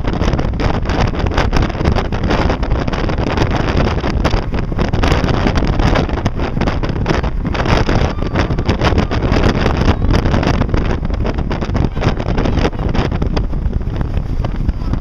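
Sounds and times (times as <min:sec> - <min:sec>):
boat rushing noise: 0:00.0 - 0:15.0
wind buffeting microphone: 0:00.0 - 0:15.0.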